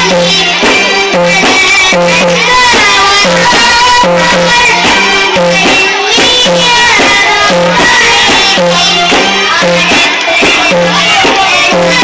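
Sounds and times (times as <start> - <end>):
song with bass beat and melody: 0.0 - 12.0.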